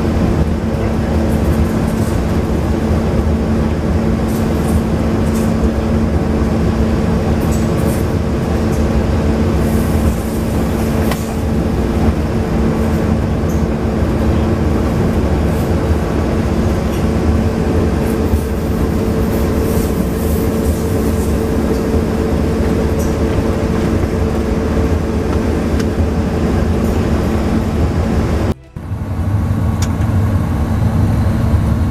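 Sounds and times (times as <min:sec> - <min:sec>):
diesel engine drone: 0:00.0 - 0:31.9
locomotive rumbling on track: 0:00.0 - 0:31.9.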